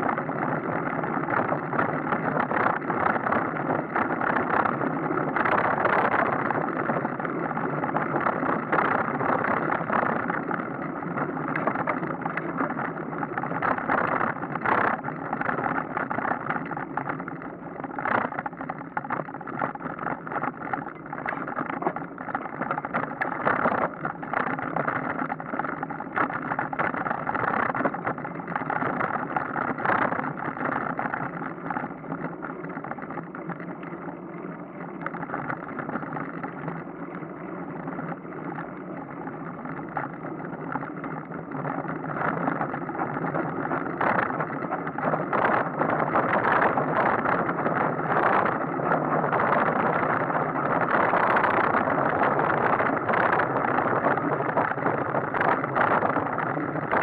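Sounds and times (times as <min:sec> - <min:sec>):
bicycle tyre and road noise: 0:00.0 - 0:57.0
wind across microphone: 0:00.0 - 0:57.0.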